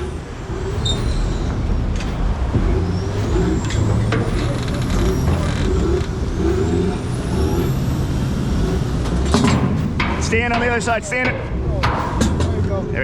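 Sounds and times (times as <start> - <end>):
heavy engine rumbling: 0.0 - 13.0
high whine rising in pitch: 0.0 - 13.0
short knocks: 0.0 - 13.0.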